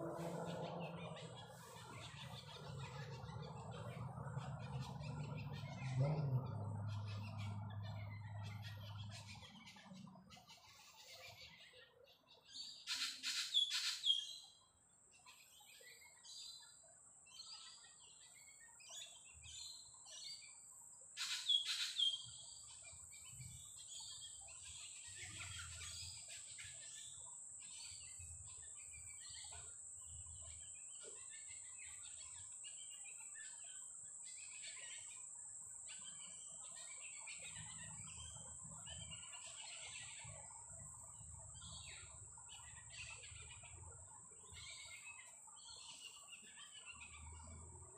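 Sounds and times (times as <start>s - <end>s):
rapid repeated bird calls: 0.0s - 47.9s
wild birds chirping: 0.0s - 47.9s.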